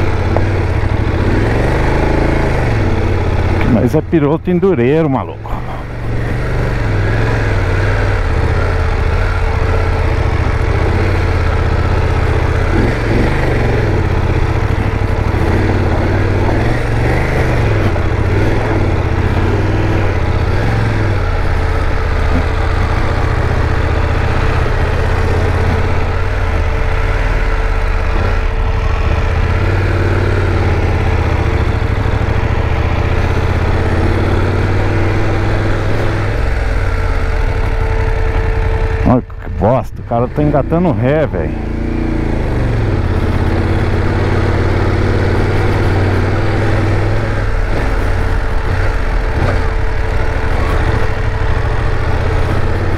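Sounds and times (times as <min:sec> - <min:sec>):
motorcycle engine at low revs: 0:00.0 - 0:52.9.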